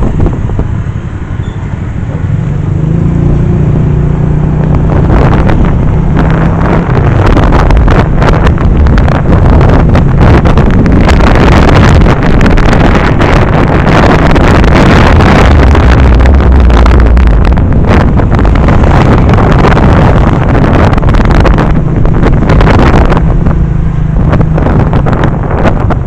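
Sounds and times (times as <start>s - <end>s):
vehicle engine drone: 0.0s - 26.0s
wind buffeting microphone: 0.0s - 26.0s.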